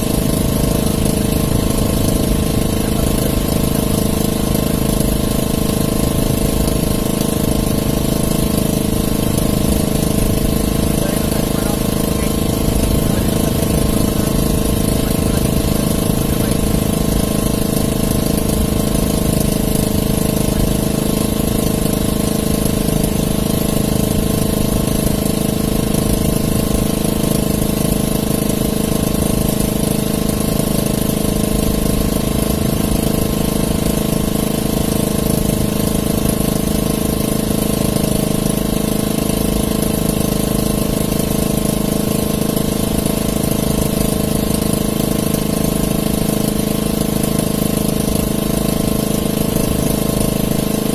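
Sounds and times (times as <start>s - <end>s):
boat engine droning: 0.0s - 50.9s.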